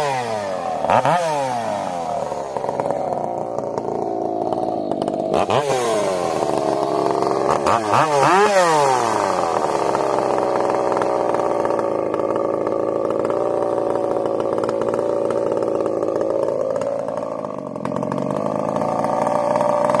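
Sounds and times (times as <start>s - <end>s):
chainsaw running: 0.0s - 20.0s.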